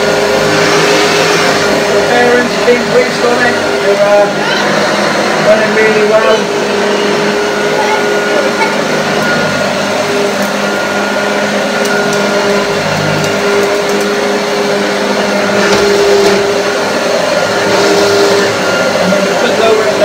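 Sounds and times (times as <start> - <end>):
upright vacuum cleaner running: 0.0 - 20.0.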